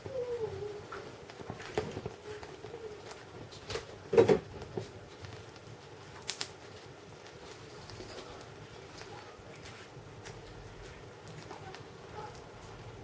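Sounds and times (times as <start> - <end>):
candle crackling and popping: 0.0 - 13.0.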